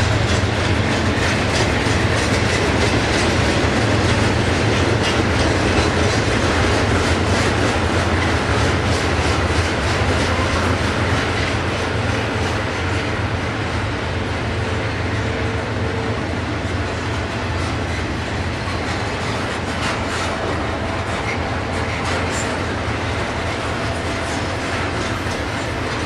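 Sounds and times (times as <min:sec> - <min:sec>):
train wheels clicking over rail joints: 0:00.0 - 0:26.0.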